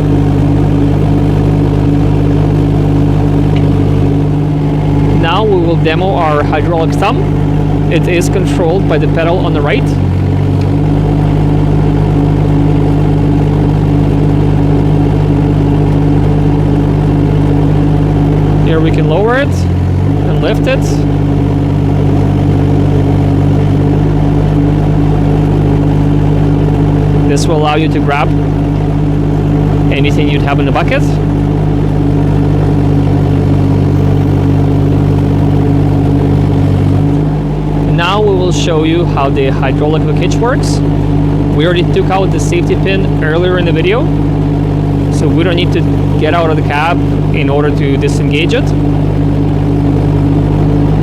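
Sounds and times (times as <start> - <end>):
diesel engine running steadily: 0.0 - 51.0.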